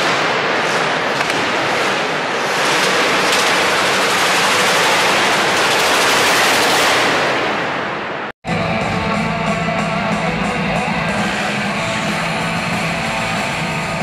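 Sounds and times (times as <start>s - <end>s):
car engine revving: 0.0s - 7.8s, 8.7s - 14.0s.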